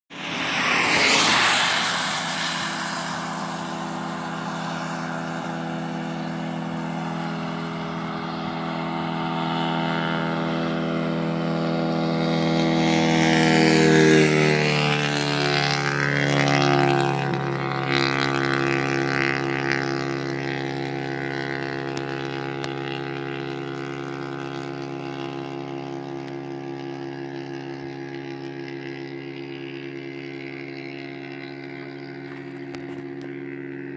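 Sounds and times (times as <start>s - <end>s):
vehicles passing on highway: 0.1s - 33.9s.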